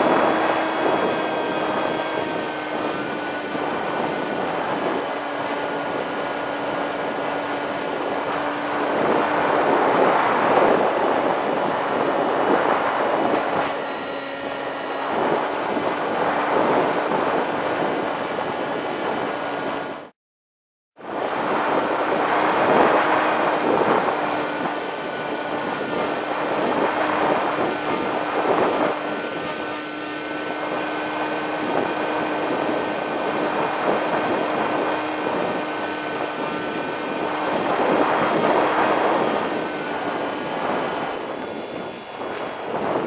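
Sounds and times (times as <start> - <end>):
electric motor and propeller whine: 0.0 - 20.1, 21.0 - 43.0
wind buffeting microphone: 0.0 - 20.1, 21.1 - 43.0.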